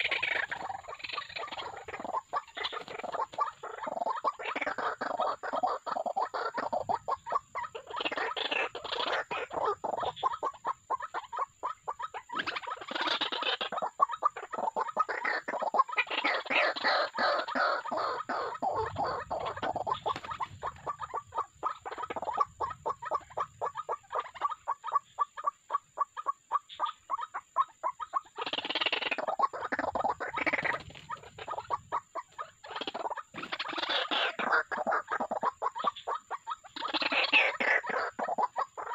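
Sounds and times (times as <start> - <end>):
waterhens croaking calls: 0.0 - 38.9.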